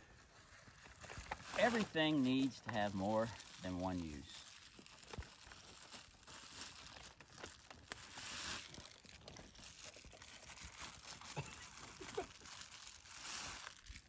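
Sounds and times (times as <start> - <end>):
crinkling and rustling: 0.0 - 14.0.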